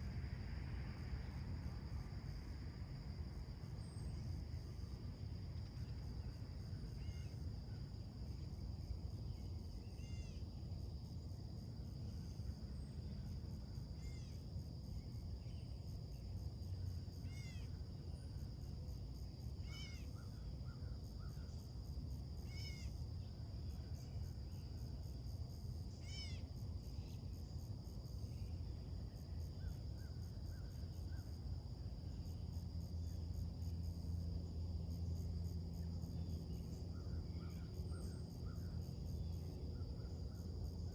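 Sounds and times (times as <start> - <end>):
high hum of insects: 0.0 - 40.9.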